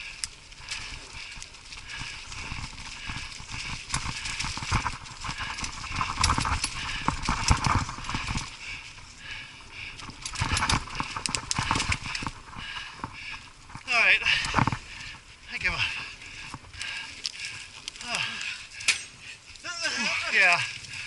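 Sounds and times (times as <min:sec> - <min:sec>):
mountain bike rattling on dirt trail: 0:00.0 - 0:21.0.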